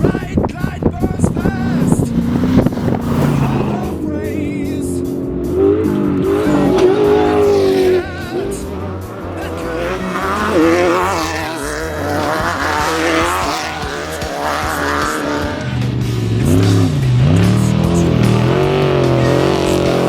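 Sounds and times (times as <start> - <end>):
race vehicle engines revving: 0.0 - 20.0.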